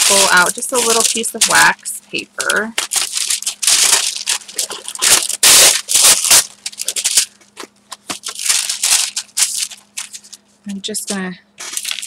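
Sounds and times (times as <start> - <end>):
wax paper rustling and crinkling: 0.0 - 10.5, 11.6 - 12.0.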